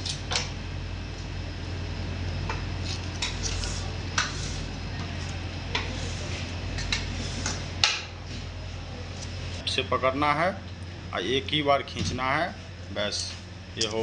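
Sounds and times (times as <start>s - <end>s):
low fan hum: 0.0s - 14.0s.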